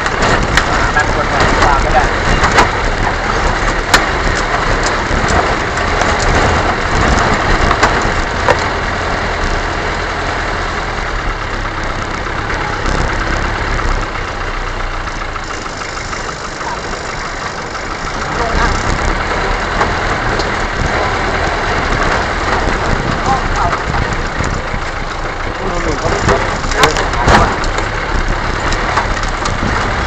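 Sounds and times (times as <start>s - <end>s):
knocks and rattles: 0.0s - 30.0s
vehicle engine running: 0.0s - 30.0s.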